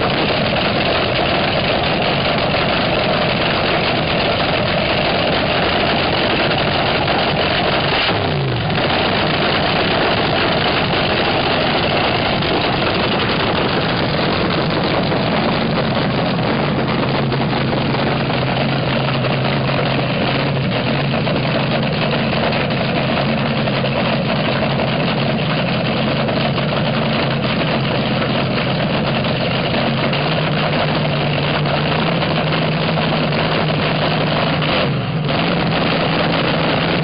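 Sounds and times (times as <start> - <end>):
dragster engine idling: 0.0 - 37.0.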